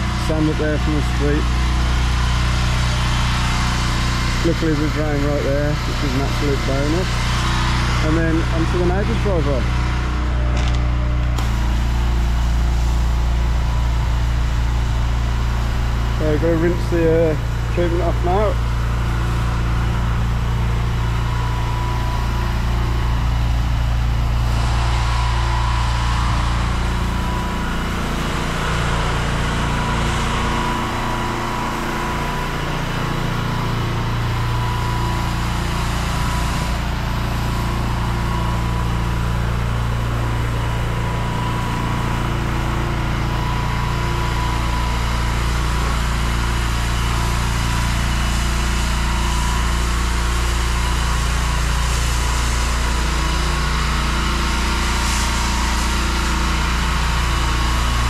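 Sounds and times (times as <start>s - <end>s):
pressure washer engine running: 0.0s - 58.0s
water spraying on paving: 11.3s - 58.0s.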